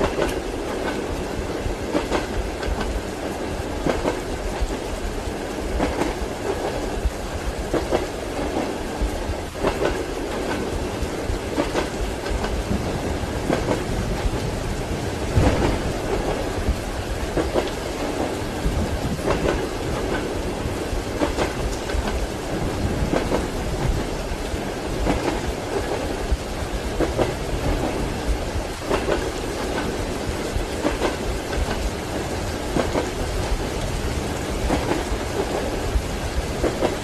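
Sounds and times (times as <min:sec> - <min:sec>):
train wheels clacking over rail joints: 0:00.0 - 0:04.9, 0:05.8 - 0:37.0
steady rain: 0:00.0 - 0:37.0
thunder rumbling: 0:00.0 - 0:37.0.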